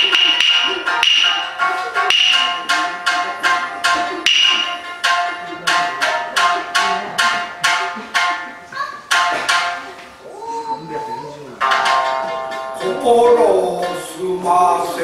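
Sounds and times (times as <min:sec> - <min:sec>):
shamisen plucked notes: 0:00.0 - 0:15.0.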